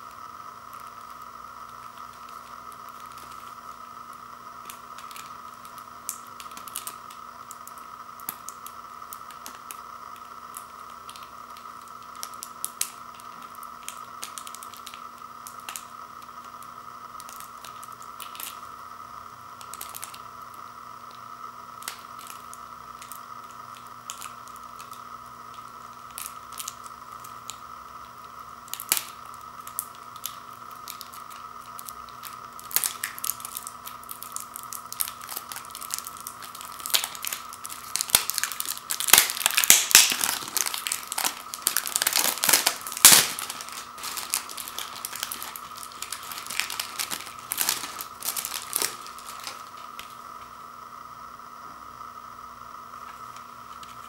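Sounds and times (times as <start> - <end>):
cellophane wrap crinkling and tearing: 2.0 - 3.9, 4.6 - 18.7, 19.6 - 20.5, 21.1 - 27.6, 28.6 - 50.3.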